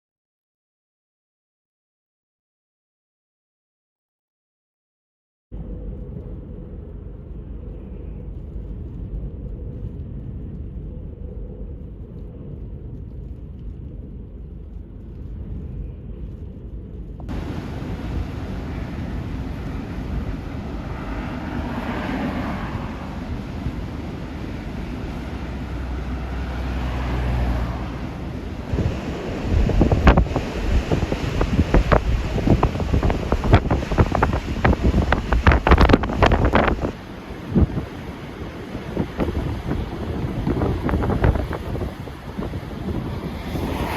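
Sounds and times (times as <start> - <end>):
strong wind buffeting microphone: 5.6 - 43.9.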